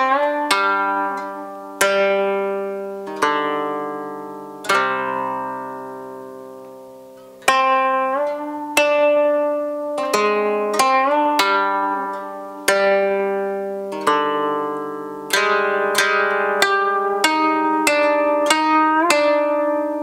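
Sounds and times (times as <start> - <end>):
plucked zither notes: 0.0 - 20.0.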